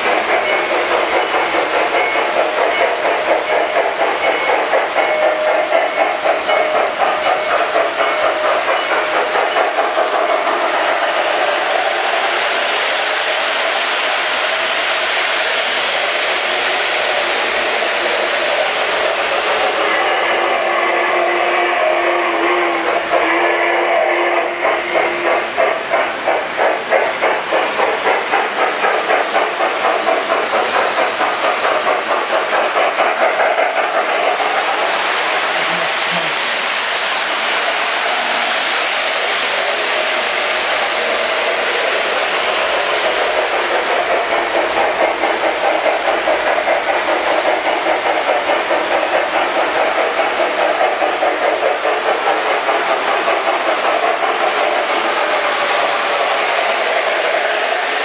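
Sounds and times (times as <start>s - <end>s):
model steam locomotive chuffing: 0.0s - 58.0s
model train wheels clattering: 0.0s - 58.0s.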